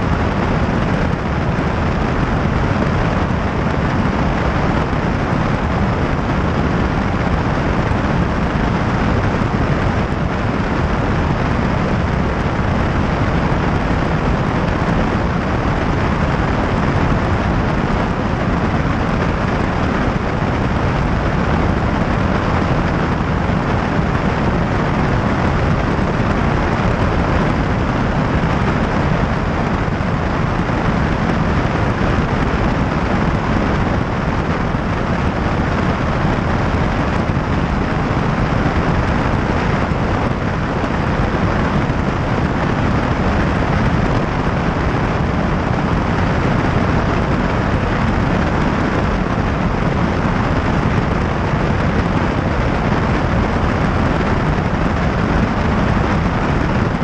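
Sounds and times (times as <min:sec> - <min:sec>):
light airplane engine drone: 0:00.0 - 0:57.0.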